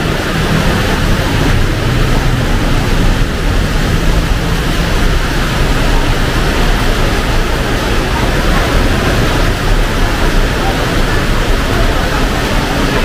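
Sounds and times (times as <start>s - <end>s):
heavy rain: 0.0s - 13.0s
traffic hum: 0.0s - 13.0s.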